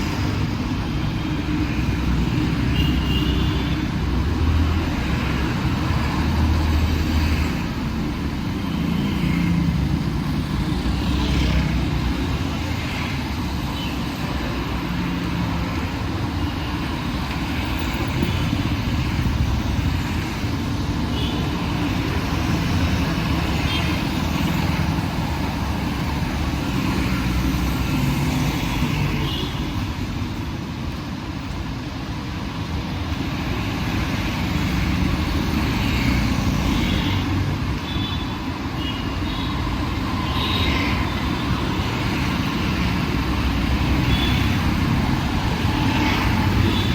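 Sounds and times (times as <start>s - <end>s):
city road traffic rumble: 0.0s - 46.9s.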